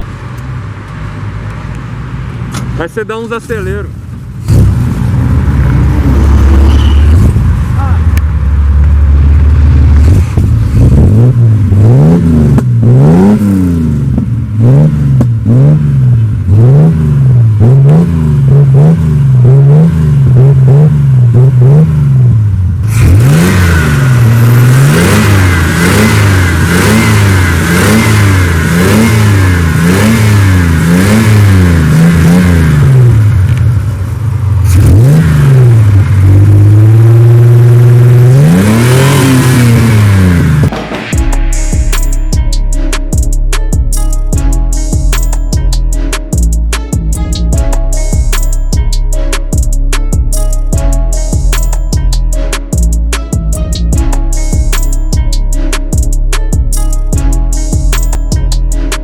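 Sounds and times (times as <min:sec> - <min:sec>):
car engine revving: 0:03.9 - 0:59.0.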